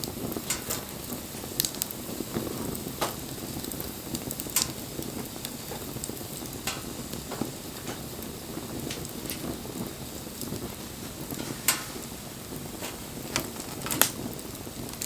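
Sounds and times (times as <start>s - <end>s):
bonfire crackling: 0.0s - 15.0s
sharp pops from fire: 0.0s - 15.0s.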